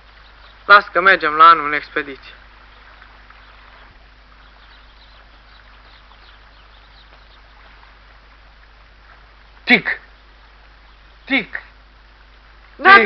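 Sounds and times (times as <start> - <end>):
background hiss: 0.0 - 13.0
faint bird chirps: 0.0 - 13.0
low hum: 0.0 - 13.0.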